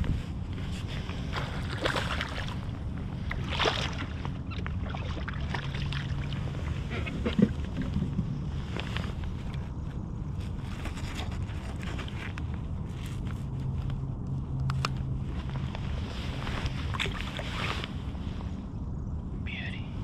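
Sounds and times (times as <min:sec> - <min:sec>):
light wind: 0:00.0 - 0:20.0
low rumble of water: 0:00.0 - 0:20.0.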